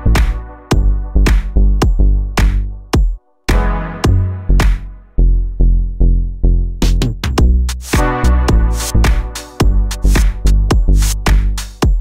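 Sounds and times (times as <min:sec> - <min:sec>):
electronic dance music: 0:00.0 - 0:04.9, 0:06.8 - 0:12.0.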